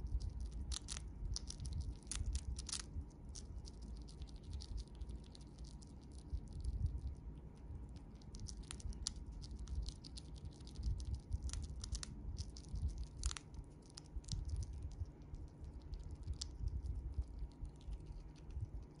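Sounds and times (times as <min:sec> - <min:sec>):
chipmunk crunching a chip: 0:00.0 - 0:19.0.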